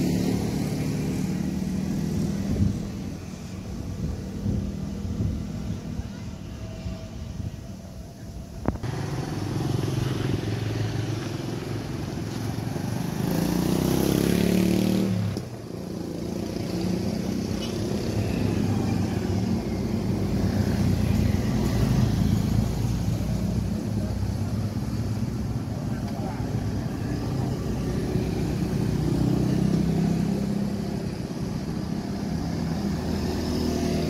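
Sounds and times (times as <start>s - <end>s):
motorcycle engines running: 0.0s - 6.4s, 8.6s - 34.0s.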